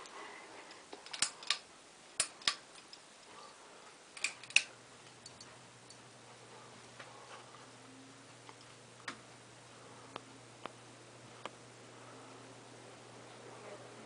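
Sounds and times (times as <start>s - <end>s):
ceiling fan clicks: 0.0s - 11.7s
fan motor humming: 0.0s - 14.0s.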